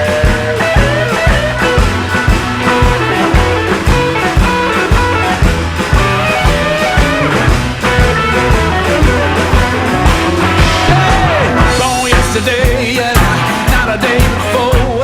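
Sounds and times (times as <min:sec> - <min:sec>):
electric guitar: 0:00.0 - 0:15.0
steady drum beat: 0:00.0 - 0:15.0.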